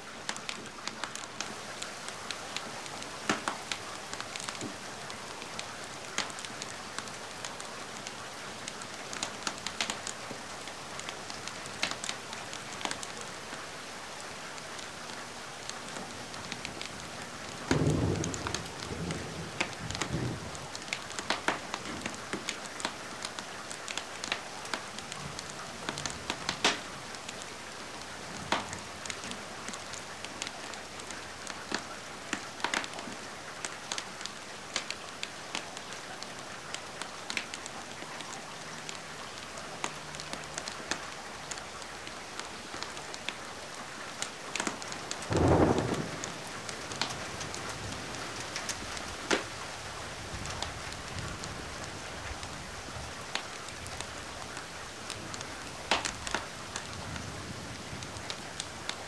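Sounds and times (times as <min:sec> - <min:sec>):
steady rain: 0:00.0 - 0:59.0
wood fire crackling: 0:00.2 - 0:13.5, 0:14.5 - 0:38.4, 0:44.1 - 0:59.0.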